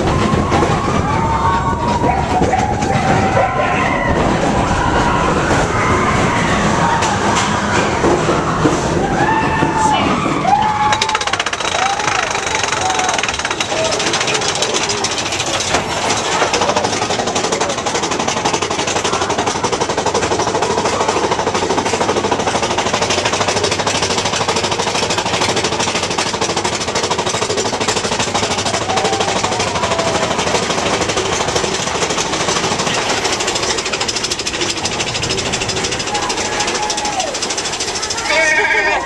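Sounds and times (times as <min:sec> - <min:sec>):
roller coaster clattering on track: 0:00.0 - 0:39.0.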